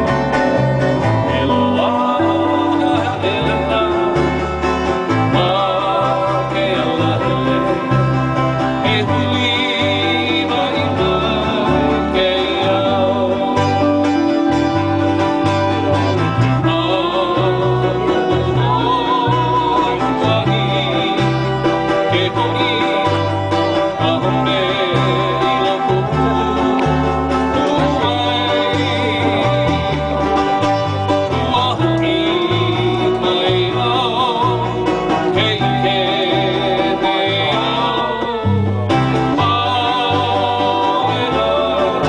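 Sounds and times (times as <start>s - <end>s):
low bass notes: 0.0s - 42.0s
strummed ukulele and guitar: 0.0s - 42.0s
man singing into a microphone: 0.6s - 15.0s, 16.5s - 42.0s.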